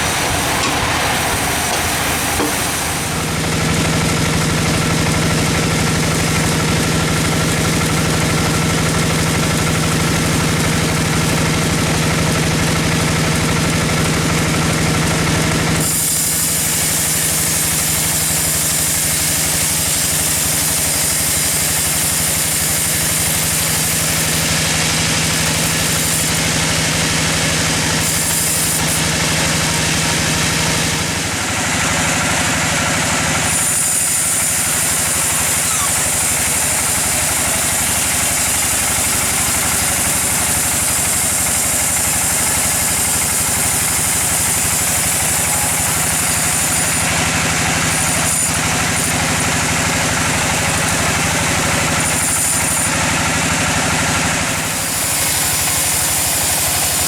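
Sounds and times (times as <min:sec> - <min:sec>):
sawmill machinery engine drone: 0:00.0 - 0:57.0.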